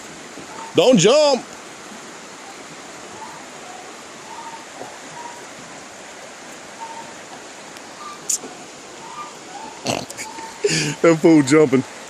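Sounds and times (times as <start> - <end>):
flowing water: 0.0 - 12.0.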